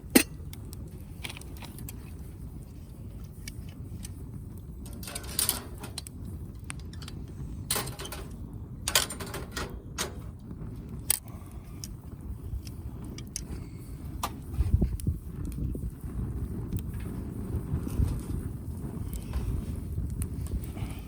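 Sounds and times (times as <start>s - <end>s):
fire crackling and popping: 0.0s - 21.0s
low rumble of fire: 0.0s - 21.0s.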